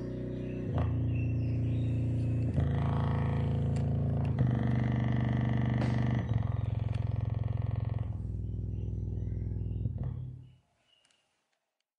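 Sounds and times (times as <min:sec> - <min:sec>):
deep bass notes from subwoofer: 0:00.0 - 0:10.5.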